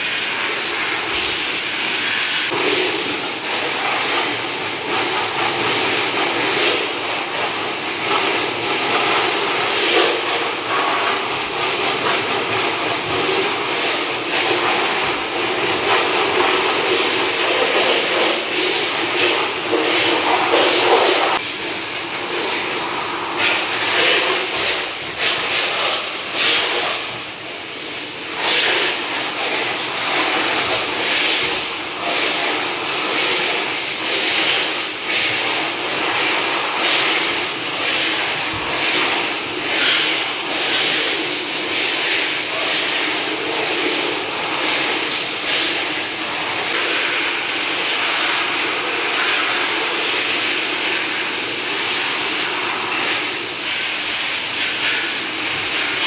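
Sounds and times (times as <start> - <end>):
hose spraying water jet: 0.0 - 56.0.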